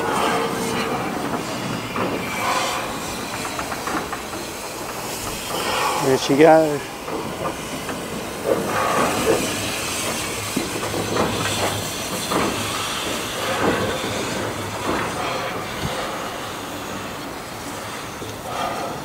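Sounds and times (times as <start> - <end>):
steam hissing: 0.0 - 19.0
train wheels clattering on rails: 0.0 - 19.0.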